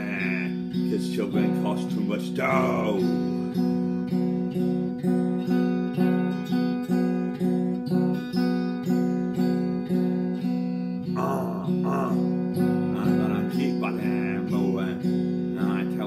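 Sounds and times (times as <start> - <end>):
electric guitar strumming: 0.0 - 16.0.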